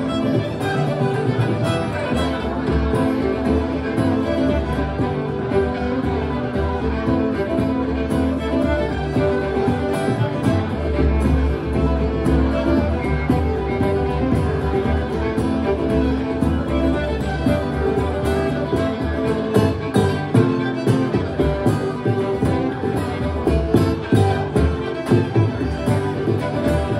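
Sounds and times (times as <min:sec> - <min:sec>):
fiddles playing a lively reel: 0:00.0 - 0:26.9
strummed acoustic guitar: 0:00.0 - 0:26.9.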